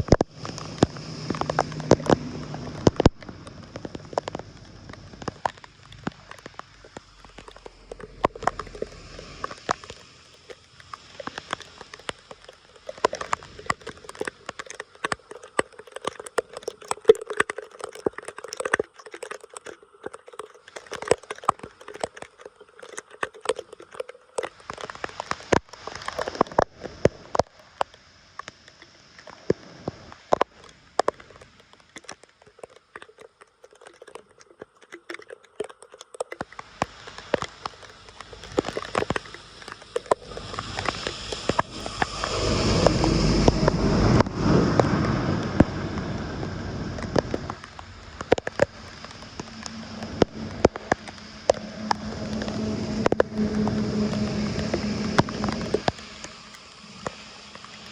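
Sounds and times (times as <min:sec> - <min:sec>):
sharp clicks and cracks: 0:00.0 - 0:57.9
water splashing and trickling: 0:00.0 - 0:57.9.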